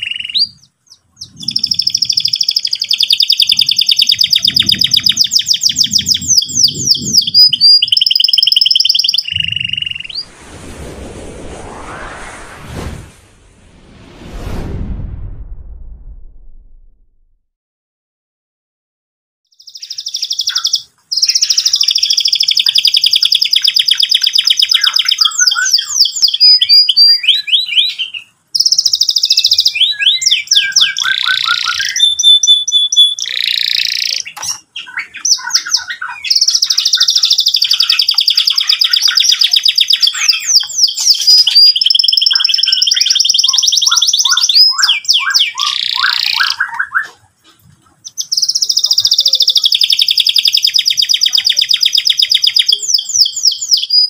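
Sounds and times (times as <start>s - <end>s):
canary singing rolling trills: 0.0s - 10.3s, 19.5s - 54.0s.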